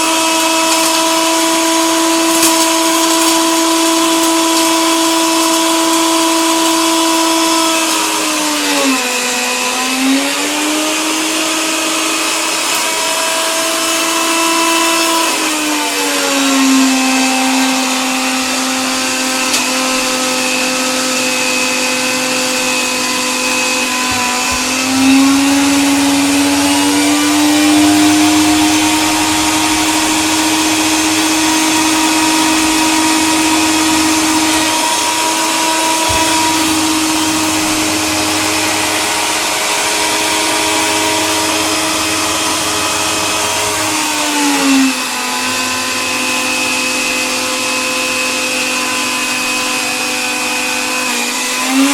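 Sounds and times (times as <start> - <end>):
coffee grinder running: 0.0 - 51.9.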